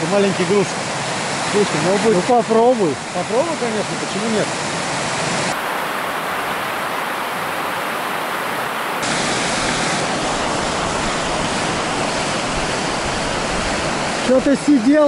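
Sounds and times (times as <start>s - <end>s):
water roaring over a weir: 0.0s - 15.0s.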